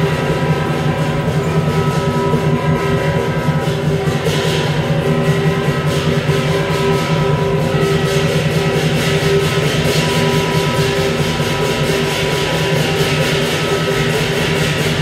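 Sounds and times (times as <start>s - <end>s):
cymbals clashing: 0.0s - 15.0s
drum beaten rapidly: 0.0s - 15.0s
gong ringing: 0.0s - 15.0s.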